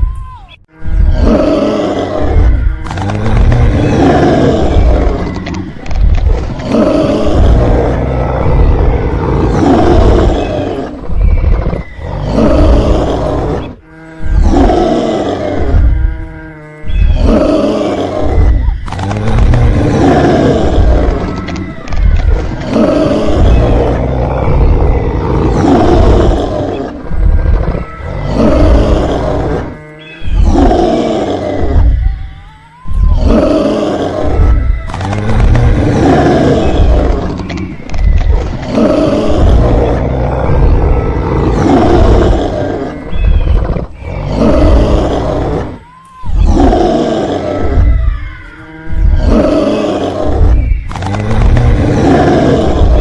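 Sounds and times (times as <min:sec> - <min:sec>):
dinosaur roars: 0:00.7 - 0:53.0.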